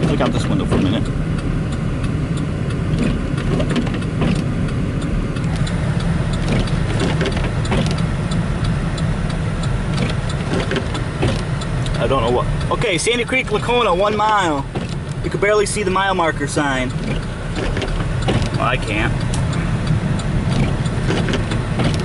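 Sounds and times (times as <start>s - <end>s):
light ticks: 0.0s - 15.4s, 16.6s - 22.0s
car engine and tyre rumble: 0.0s - 22.0s.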